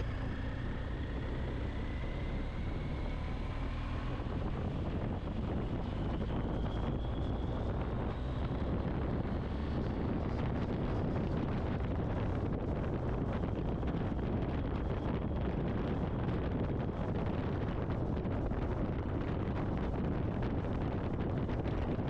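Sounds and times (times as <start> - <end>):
motorcycle road noise: 0.0 - 22.0
wind rush on microphone: 0.0 - 22.0.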